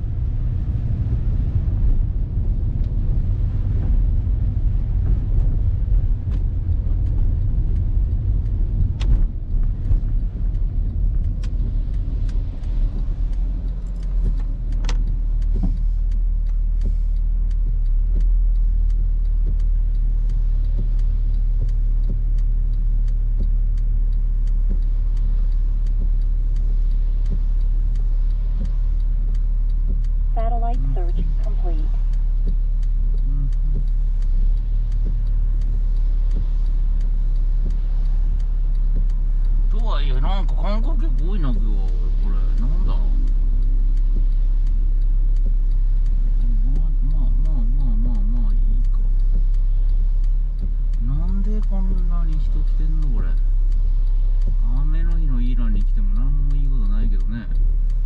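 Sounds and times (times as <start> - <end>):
car engine and wet tyres rumble: 0.0 - 58.0
rain and wiper clicks: 0.0 - 58.0.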